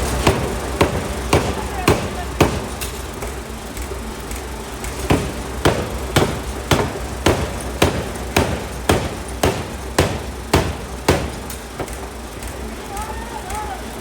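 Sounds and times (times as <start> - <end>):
forging hammer striking steel: 0.0 - 13.1
low machine hum: 0.0 - 14.0.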